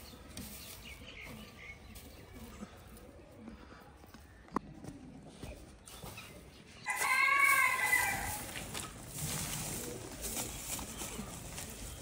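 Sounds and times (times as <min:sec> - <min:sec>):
rustle of soil and straw: 0:00.0 - 0:03.5, 0:05.8 - 0:12.0.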